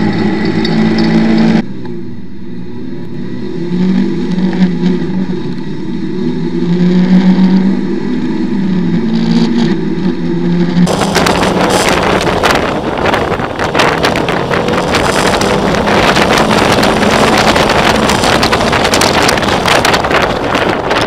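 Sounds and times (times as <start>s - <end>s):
car engine revving: 0.0s - 21.0s
wind buffeting microphone: 3.1s - 21.0s.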